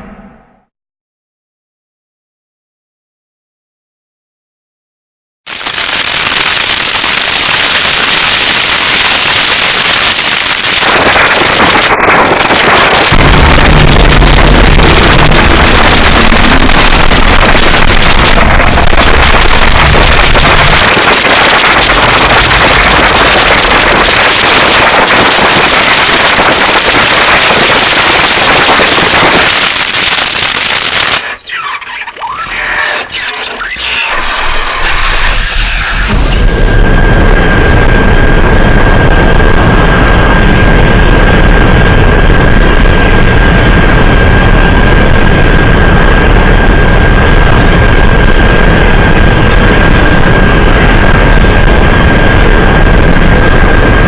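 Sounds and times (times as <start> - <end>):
deep rumble: 0.0 - 0.7, 5.5 - 31.2, 34.2 - 54.0
hissing crackling blast effect: 5.5 - 31.4, 32.9 - 54.0.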